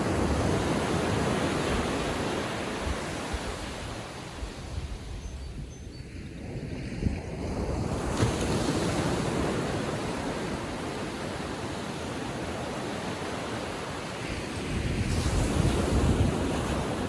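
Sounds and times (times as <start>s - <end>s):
small waves breaking on beach: 0.0s - 5.0s, 6.5s - 17.0s
wind rumbling on microphone: 0.0s - 11.4s, 14.2s - 17.0s.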